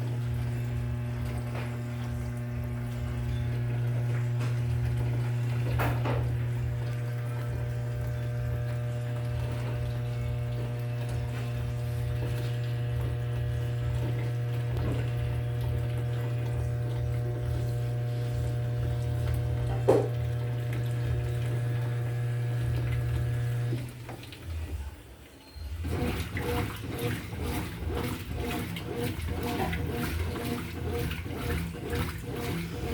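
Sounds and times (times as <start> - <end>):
electric pump hum: 0.0 - 32.9
water running through washing machine: 0.0 - 32.9.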